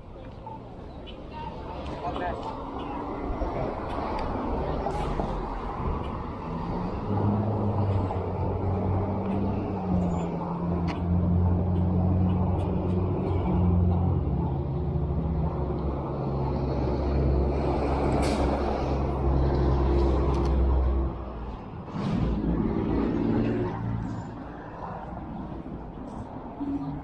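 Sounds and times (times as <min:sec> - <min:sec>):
faint street noise: 0:00.0 - 0:27.0
vehicle engine humming: 0:00.0 - 0:27.0.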